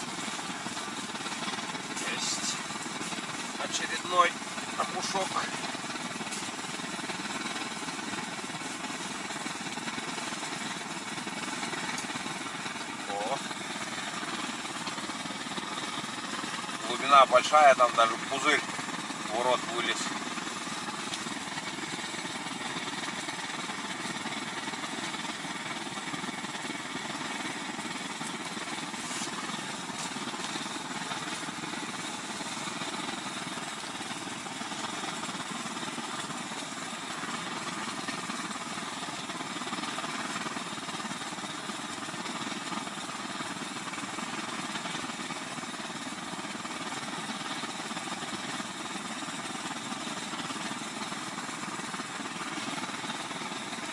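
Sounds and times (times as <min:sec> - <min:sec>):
blowtorch burning: 0:00.0 - 0:53.9.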